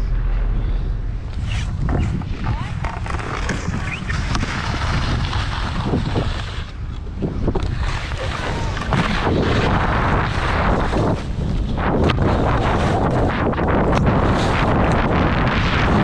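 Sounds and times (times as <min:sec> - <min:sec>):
wind buffeting microphone: 0:00.0 - 0:16.0
skis sliding on snow: 0:01.4 - 0:06.8, 0:07.6 - 0:16.0.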